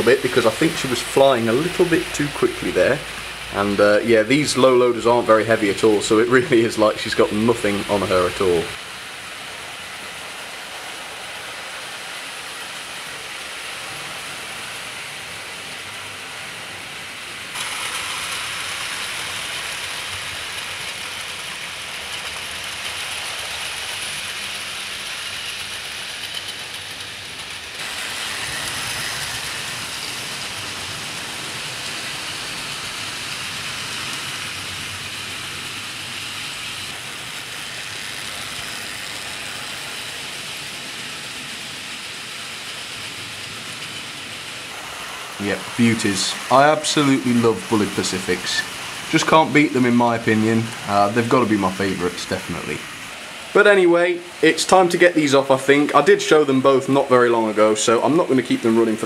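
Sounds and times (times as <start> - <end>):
model train motors whirring: 0.0 - 59.0.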